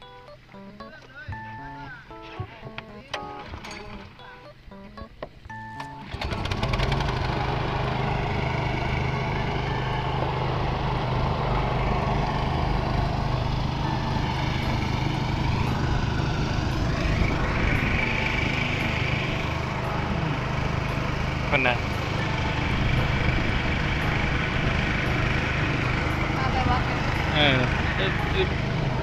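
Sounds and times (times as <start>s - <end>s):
boat motor humming: 0.0s - 29.0s.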